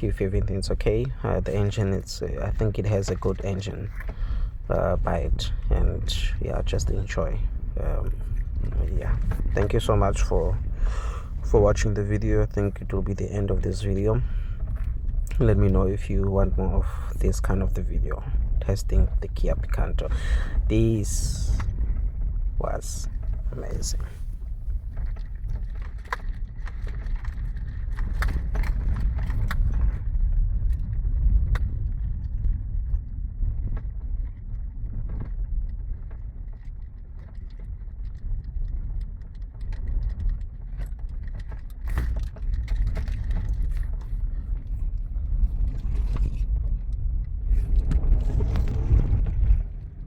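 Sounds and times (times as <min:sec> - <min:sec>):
car tyres rumbling on gravel: 0:00.0 - 0:50.0
gravel clicks and rattles: 0:00.0 - 0:50.0.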